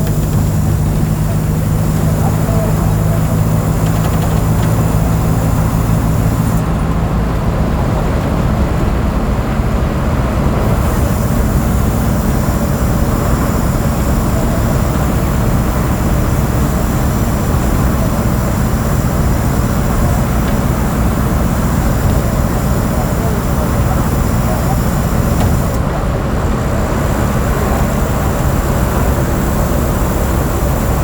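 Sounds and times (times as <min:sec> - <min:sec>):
bus diesel engine rumble: 0:00.0 - 0:31.0.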